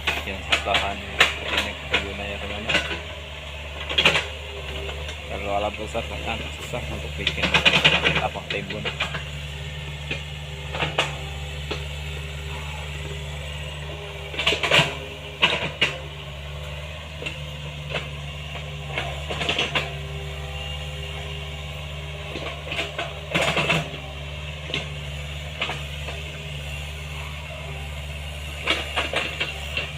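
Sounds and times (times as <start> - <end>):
machine clanking and knocking: 0.0 - 26.4, 28.2 - 29.9
excavator diesel engine running: 0.0 - 29.9.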